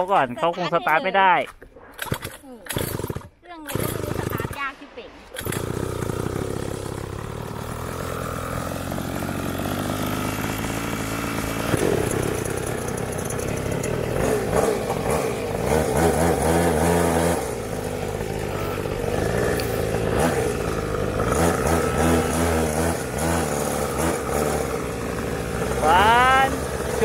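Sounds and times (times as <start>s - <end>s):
small two-stroke engine revving: 2.0s - 4.8s, 5.4s - 27.0s.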